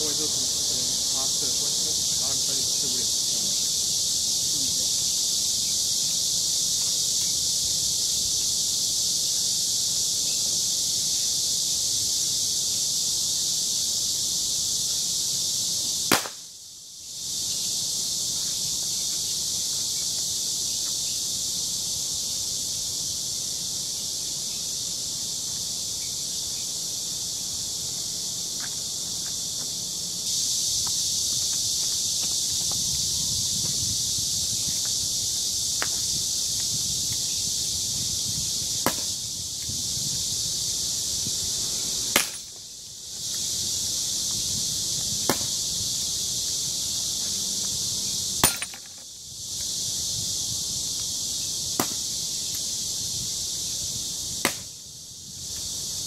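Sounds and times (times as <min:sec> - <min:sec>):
insects buzzing: 0:00.0 - 0:56.0.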